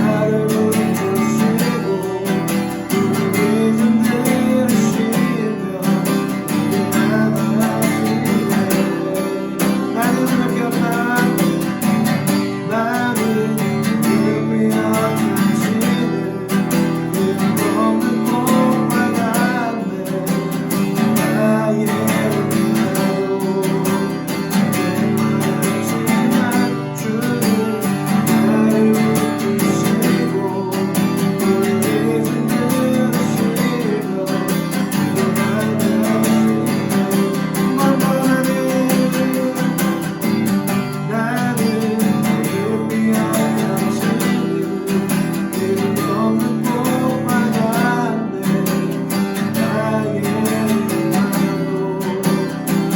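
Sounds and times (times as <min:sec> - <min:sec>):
person singing: 0:00.0 - 0:52.9
strummed acoustic guitar: 0:00.0 - 0:52.9.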